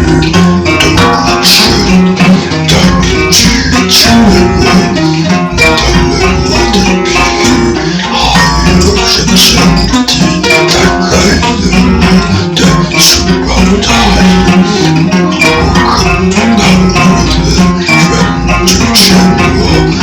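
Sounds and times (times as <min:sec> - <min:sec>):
low bass drone: 0:00.0 - 0:20.0
plucked guitar: 0:00.0 - 0:20.0.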